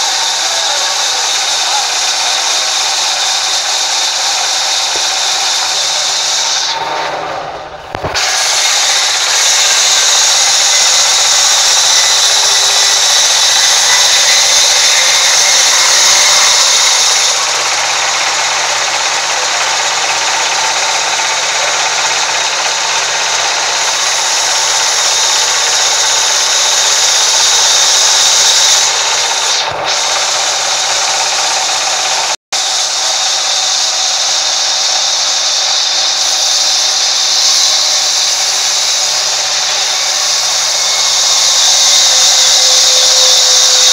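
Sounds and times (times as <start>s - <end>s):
band saw cutting log: 0.0s - 43.9s.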